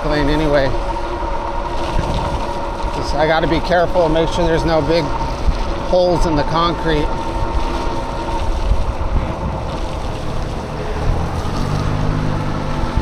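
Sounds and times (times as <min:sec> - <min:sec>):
motor vehicle engine hum: 0:00.0 - 0:13.0
road rumble: 0:00.0 - 0:13.0
wind buffeting microphone: 0:00.0 - 0:13.0.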